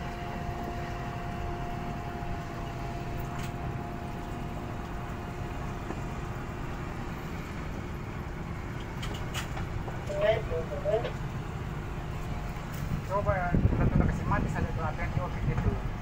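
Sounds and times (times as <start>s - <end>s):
boat motor rumbling: 0.0s - 16.0s.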